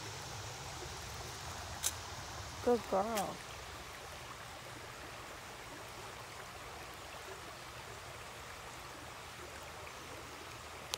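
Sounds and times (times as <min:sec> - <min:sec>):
creek running over concrete: 0:00.0 - 0:10.9.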